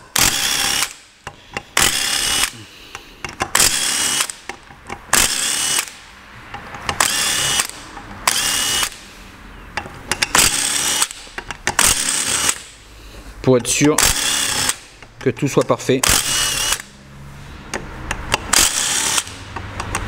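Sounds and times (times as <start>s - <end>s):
impact wrench bursts: 0.1s - 6.1s, 6.8s - 9.1s, 10.0s - 12.9s, 13.6s - 17.0s, 17.6s - 20.0s.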